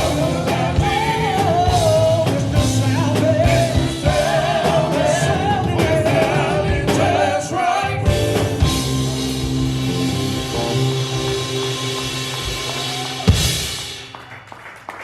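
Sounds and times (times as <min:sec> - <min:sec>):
gospel band playing: 0:00.0 - 0:15.0.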